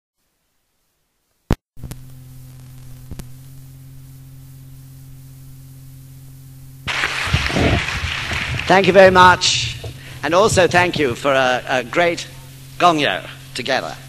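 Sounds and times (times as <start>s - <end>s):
background hiss: 0.2s - 14.0s
low electrical hum: 0.2s - 14.0s.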